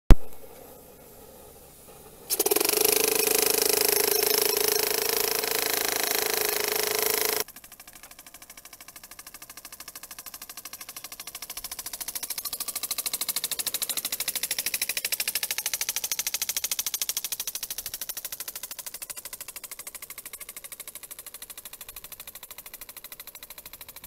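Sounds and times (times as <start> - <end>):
steam hiss with whistling tone: 0.4 - 7.5, 10.2 - 23.5
steam engine chuffing: 0.7 - 24.0.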